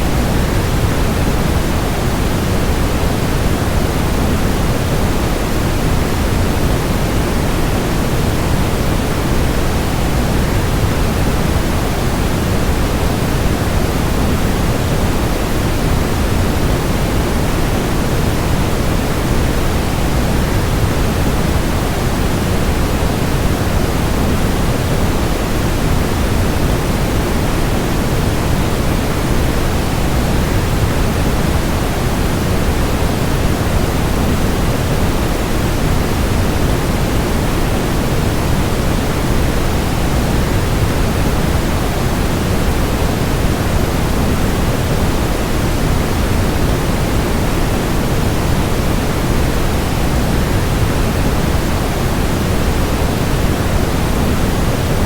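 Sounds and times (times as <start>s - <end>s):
white noise: 0.0s - 55.0s.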